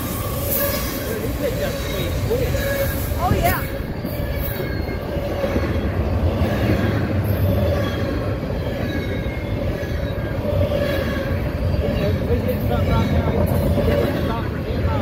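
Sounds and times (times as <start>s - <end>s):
train wheels rumbling on rail: 0.0s - 15.0s
wheels squealing: 0.0s - 15.0s.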